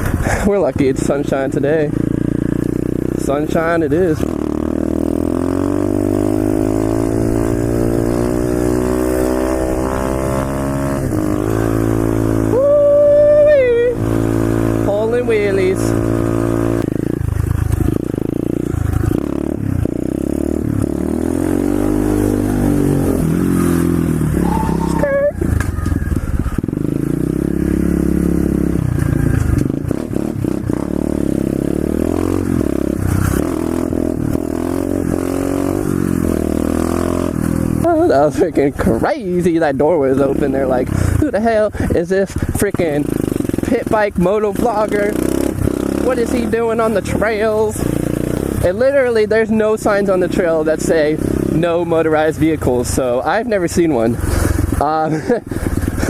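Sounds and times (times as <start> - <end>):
small motorbike engine revving: 1.6 - 39.4, 40.1 - 56.0.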